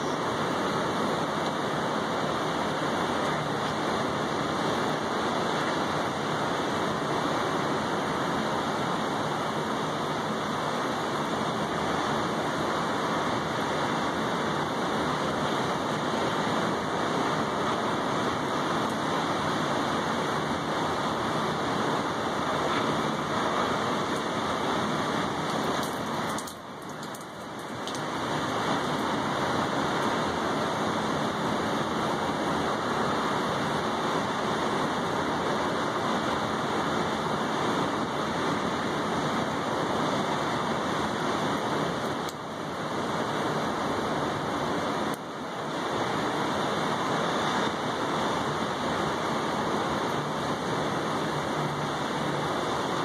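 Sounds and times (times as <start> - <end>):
rain falling on table and railing: 0.0 - 53.0.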